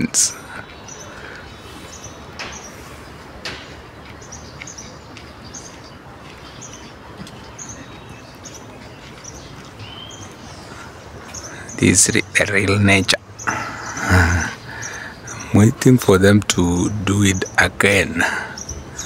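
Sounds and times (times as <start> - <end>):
bird chirping: 0.0 - 19.0
outdoor background noise: 0.0 - 19.0.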